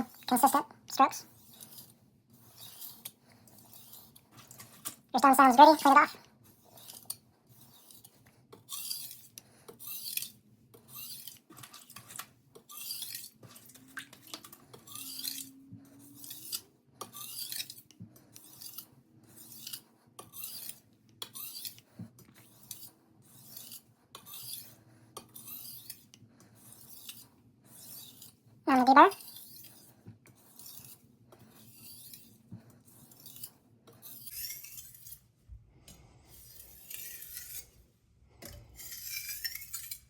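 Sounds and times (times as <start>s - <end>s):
knife scraping on sharpening stone: 1.3s - 5.0s, 6.6s - 28.4s, 29.1s - 35.3s, 36.3s - 40.0s.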